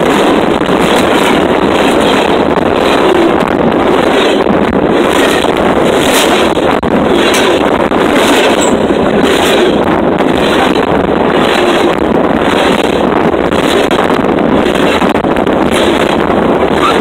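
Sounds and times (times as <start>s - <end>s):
low rumble: 0.0s - 17.0s
steel train wheels on rails: 0.0s - 17.0s
wind on microphone: 0.0s - 17.0s.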